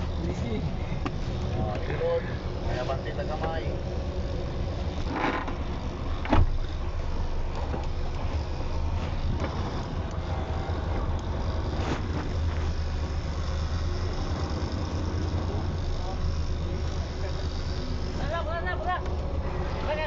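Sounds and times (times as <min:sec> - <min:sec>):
vehicle low rumble: 0:00.0 - 0:20.0.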